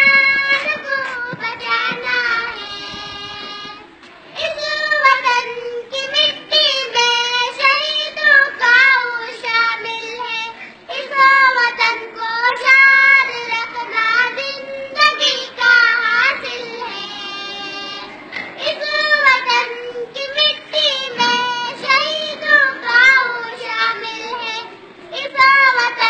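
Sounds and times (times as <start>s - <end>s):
children singing: 0.0s - 26.0s.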